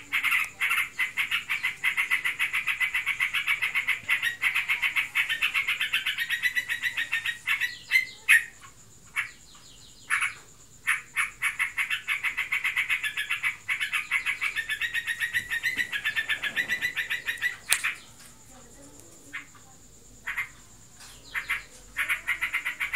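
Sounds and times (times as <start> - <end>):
bulbul chattering calls: 0.0 - 18.2, 19.1 - 22.9.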